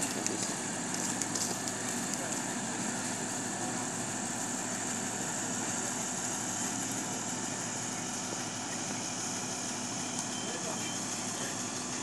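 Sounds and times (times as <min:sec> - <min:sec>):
diesel construction machines idling: 0:00.0 - 0:12.0.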